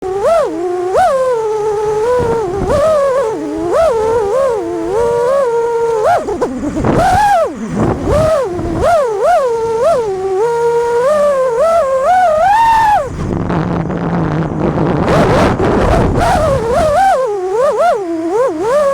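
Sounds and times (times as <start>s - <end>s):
quadcopter motors whining: 0.0s - 18.9s.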